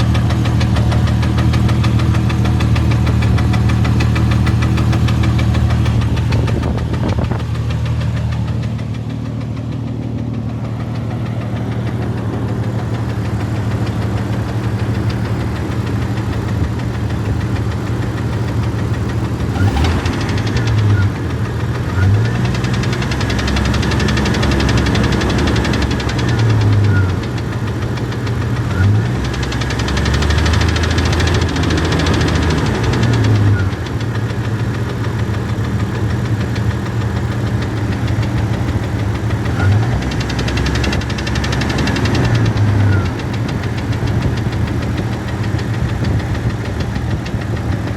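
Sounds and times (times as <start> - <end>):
engine knocking: 0.0 - 47.9.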